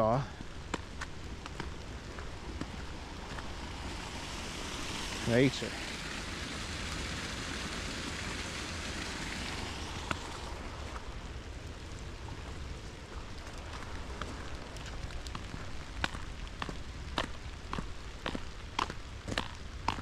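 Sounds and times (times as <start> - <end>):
sharp rain taps: 0.0 - 20.0
steady rain in woods: 0.0 - 20.0.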